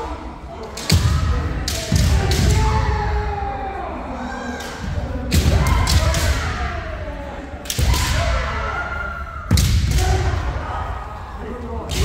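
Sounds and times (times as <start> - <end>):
people shouting: 0.0 - 12.0.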